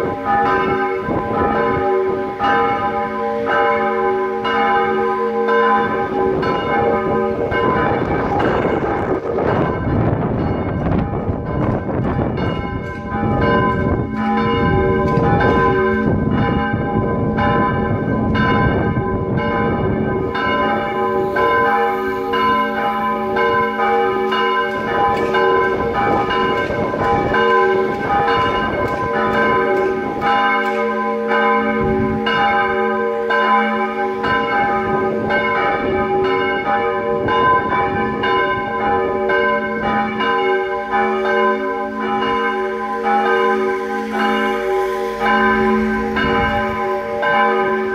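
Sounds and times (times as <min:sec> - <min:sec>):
church bells ringing: 0:00.0 - 0:47.9.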